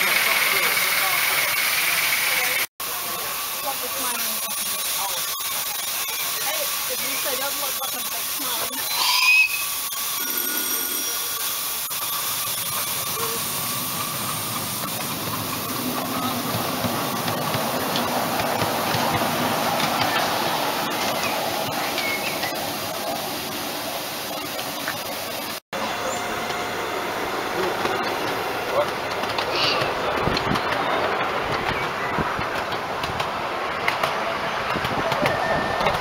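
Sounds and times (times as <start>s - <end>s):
miniature train running: 0.0s - 36.0s
steam hissing: 0.0s - 36.0s.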